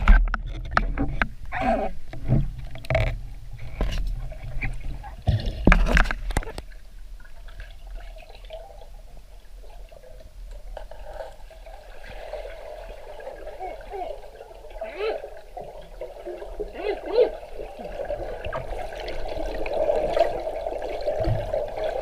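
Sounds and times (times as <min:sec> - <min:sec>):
water splashing and gurgling: 0:00.0 - 0:22.0.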